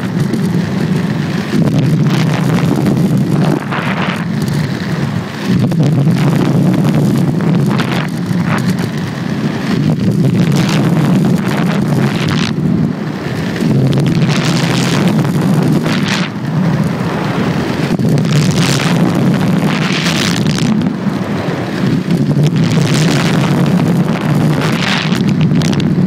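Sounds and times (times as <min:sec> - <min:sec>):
skate wheels rolling on asphalt: 0:00.0 - 0:26.0
wind buffeting microphone: 0:00.0 - 0:26.0.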